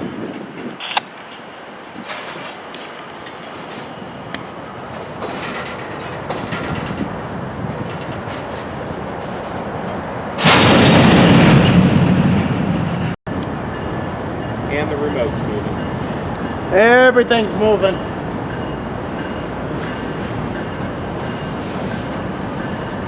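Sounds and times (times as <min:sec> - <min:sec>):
railroad cars rolling: 0:00.0 - 0:23.0.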